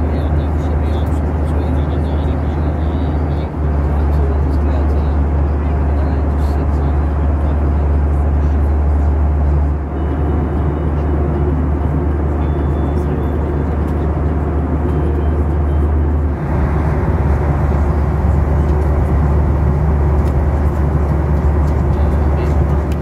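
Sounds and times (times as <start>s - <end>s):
airplane cabin engine rumble: 0.0s - 23.0s.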